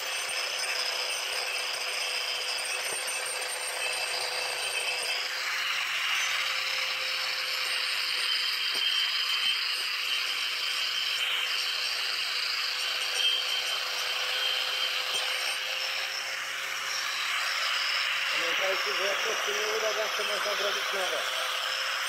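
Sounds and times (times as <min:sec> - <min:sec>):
angle grinder sanding wood: 0:00.0 - 0:22.0.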